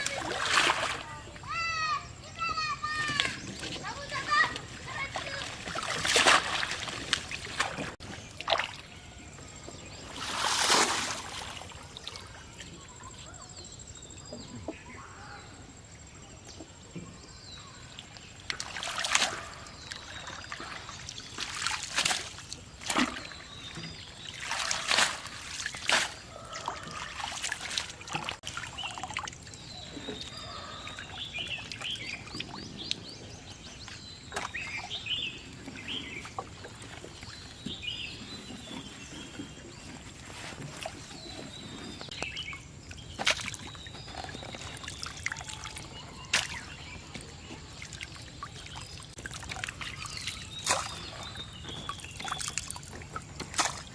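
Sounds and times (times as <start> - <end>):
shallow water splashing: 0.0 - 1.6, 2.8 - 12.6, 18.3 - 33.0, 33.6 - 53.9.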